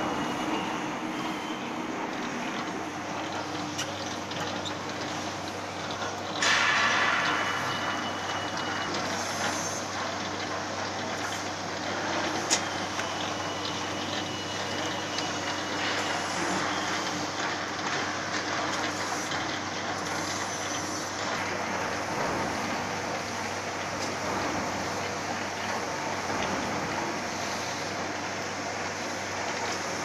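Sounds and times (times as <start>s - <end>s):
rounding rollers noise: 0.0s - 30.0s.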